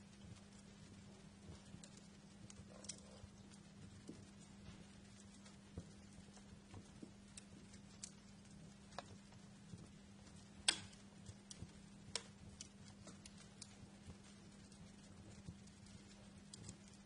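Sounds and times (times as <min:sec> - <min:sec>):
faint low hum and hiss: 0:00.0 - 0:17.0
wood fire crackling: 0:00.0 - 0:17.0.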